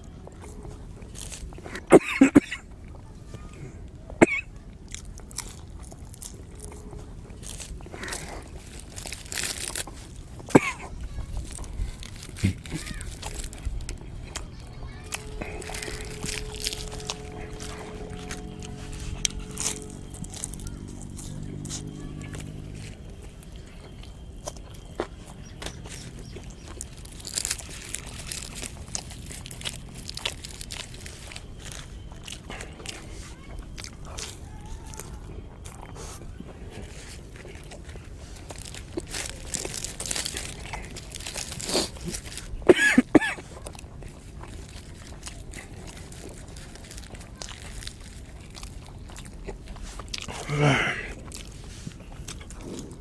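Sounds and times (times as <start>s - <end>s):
person chewing crispy snack: 0.0s - 53.0s
fried bread tearing apart: 4.8s - 35.2s, 37.0s - 42.8s, 43.5s - 53.0s.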